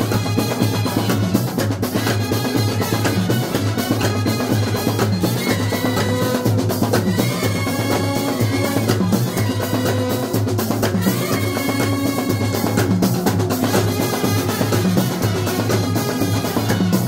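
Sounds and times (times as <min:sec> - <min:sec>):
bass and snare drums beating: 0:00.0 - 0:17.0
brass band playing: 0:00.0 - 0:17.0
trumpets holding notes: 0:00.0 - 0:17.0.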